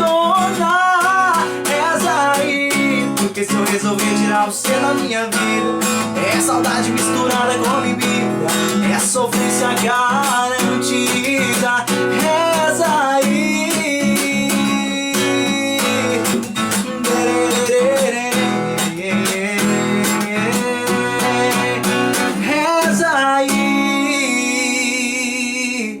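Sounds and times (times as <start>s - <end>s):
guitar picking notes and chords: 0.0s - 25.8s.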